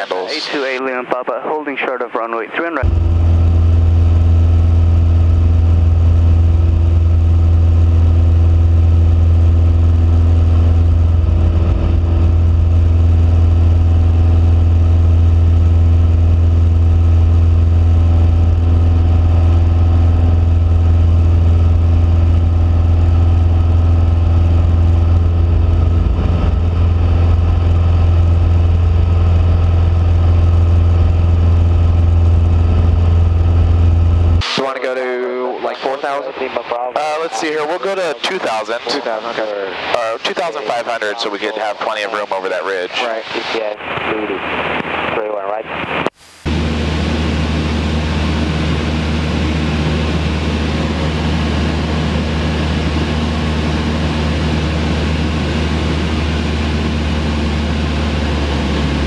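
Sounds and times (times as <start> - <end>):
propeller plane engine droning: 0.0 - 34.4, 35.5 - 59.0.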